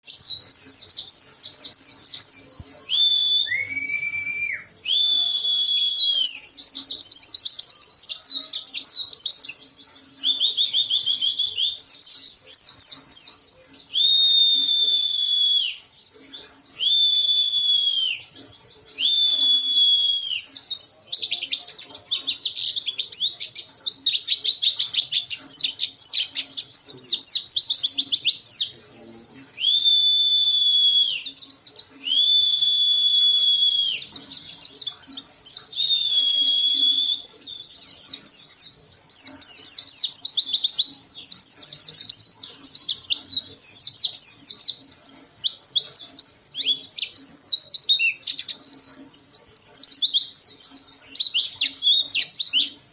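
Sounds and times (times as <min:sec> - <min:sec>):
bird singing whistles and chirps: 0:00.0 - 0:52.8.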